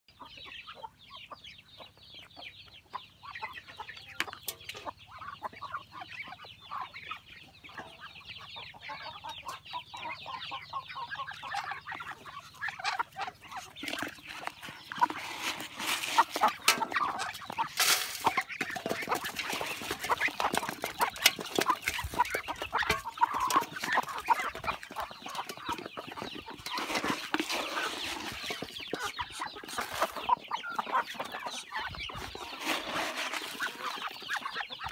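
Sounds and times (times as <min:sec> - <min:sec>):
chickens clucking: 0:00.1 - 0:34.9
birds pecking and rustling: 0:02.6 - 0:34.9.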